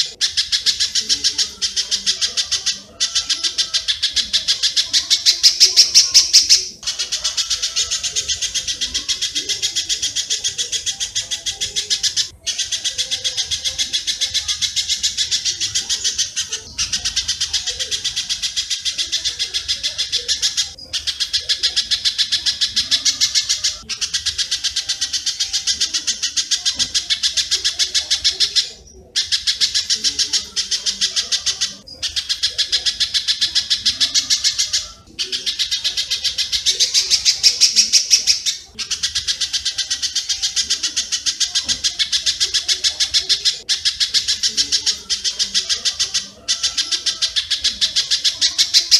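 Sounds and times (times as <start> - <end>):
rapid sharp high bird chips: 0.0 - 48.9.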